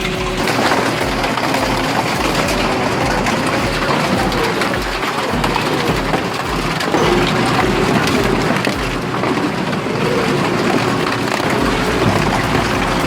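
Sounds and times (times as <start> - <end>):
low thumps: 0.0 - 13.0.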